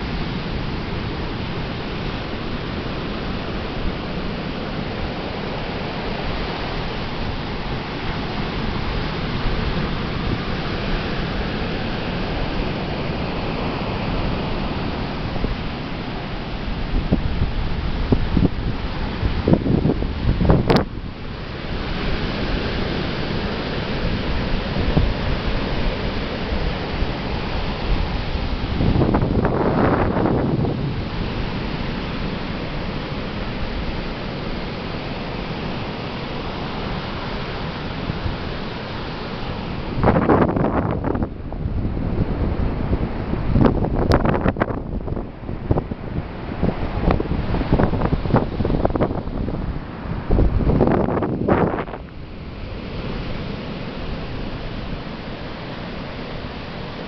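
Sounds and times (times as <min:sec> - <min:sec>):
waves breaking on a beach: 0:00.0 - 0:57.0.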